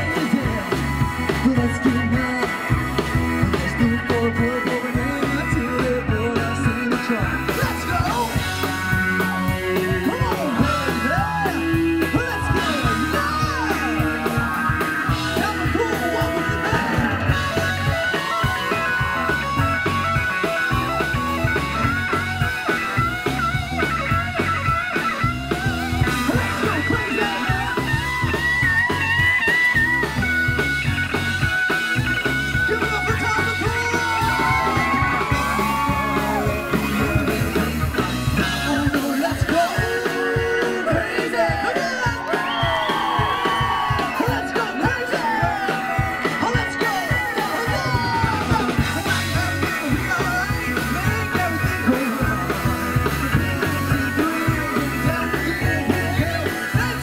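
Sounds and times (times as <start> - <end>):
person singing: 0.0 - 19.4, 25.5 - 28.2, 32.7 - 42.9, 43.5 - 57.0
live rock band playing: 0.0 - 57.0
wailing lead guitar: 0.0 - 57.0.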